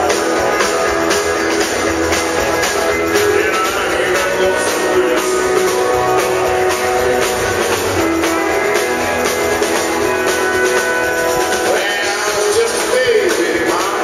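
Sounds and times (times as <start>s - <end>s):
drum kit beat: 0.0s - 14.0s
electric guitar: 0.0s - 14.0s
strummed acoustic guitars: 0.0s - 14.0s.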